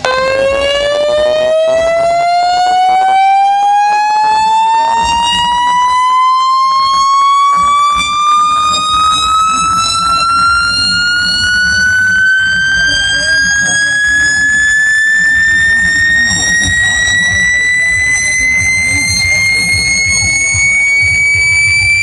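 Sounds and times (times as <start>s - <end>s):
loud siren-like speaker tone: 0.0s - 22.0s.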